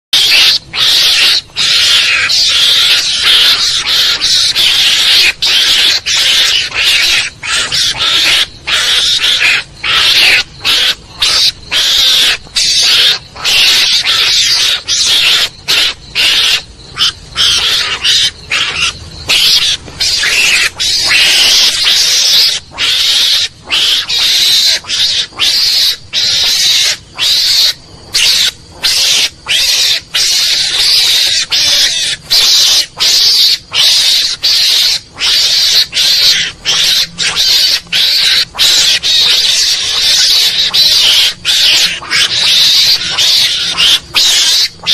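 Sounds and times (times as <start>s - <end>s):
recorded mongoose calls: 0.2s - 44.9s.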